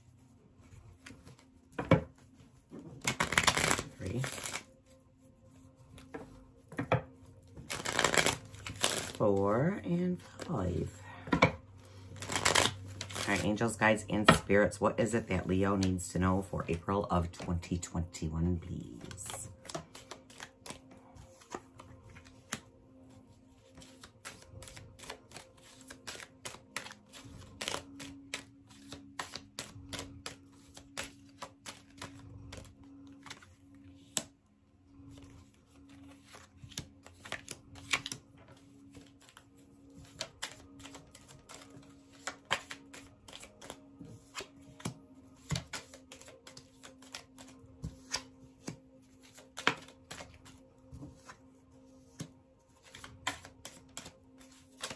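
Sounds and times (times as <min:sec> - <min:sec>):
cards being shuffled: 0:00.6 - 0:04.8, 0:07.5 - 0:10.9, 0:12.0 - 0:14.5, 0:18.7 - 0:22.8, 0:23.5 - 0:34.4, 0:35.1 - 0:54.9.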